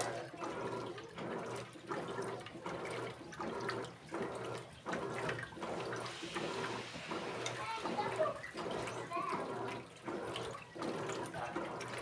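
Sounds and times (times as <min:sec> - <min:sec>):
water sloshing in washing machine: 0:00.0 - 0:12.0.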